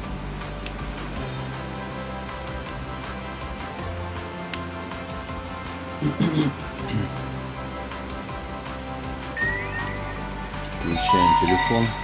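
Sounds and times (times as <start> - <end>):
background music of held tones: 0.0 - 12.0.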